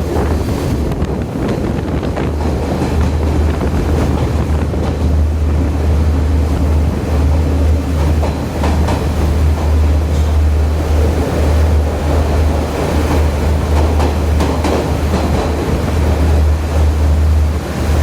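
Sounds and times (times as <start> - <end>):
train running at speed: 0.0 - 18.0.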